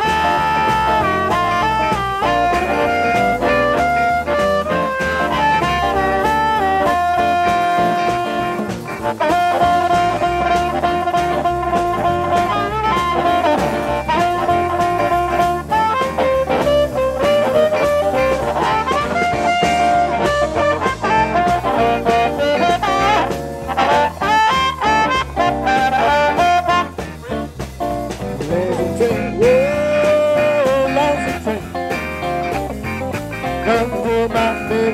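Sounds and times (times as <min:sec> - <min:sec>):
amplified harmonica solo: 0:00.0 - 0:34.9
drums: 0:00.0 - 0:34.9
electric guitar: 0:00.0 - 0:34.9.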